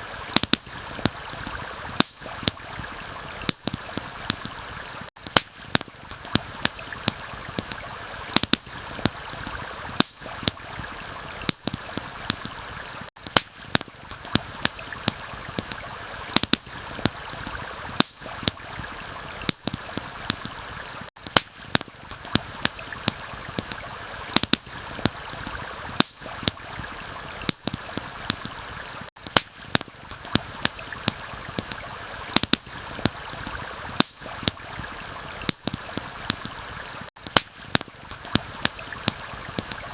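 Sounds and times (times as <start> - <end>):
campfire popping and crackling: 0.0 - 39.9
stream flowing: 0.0 - 39.9.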